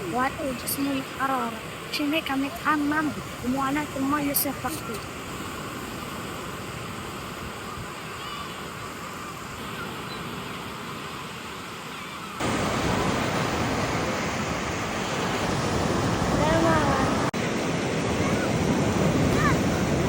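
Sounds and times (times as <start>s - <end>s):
sea surf washing on beach: 0.0s - 20.0s.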